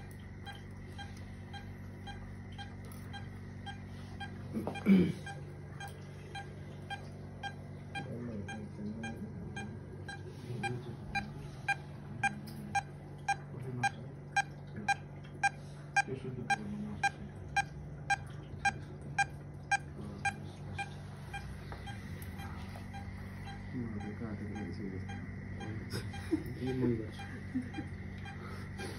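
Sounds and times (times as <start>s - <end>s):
medical monitor beeping: 0.0s - 28.9s.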